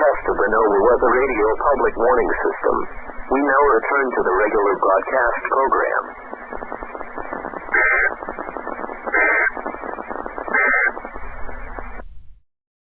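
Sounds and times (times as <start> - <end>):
short electronic data bursts: 0.0 - 12.0
radio static: 0.0 - 12.1.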